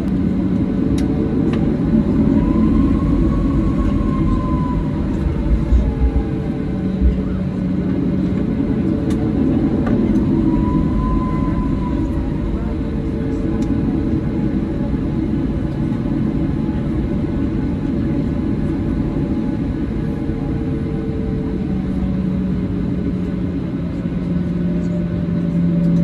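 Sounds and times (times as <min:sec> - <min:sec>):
jet engines rumbling: 0:00.0 - 0:26.0
steady low hum: 0:00.0 - 0:26.0.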